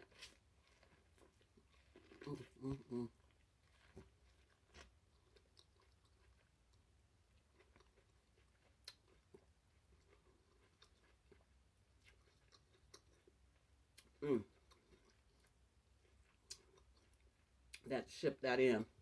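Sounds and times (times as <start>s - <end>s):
faint chewing: 0.0s - 17.9s.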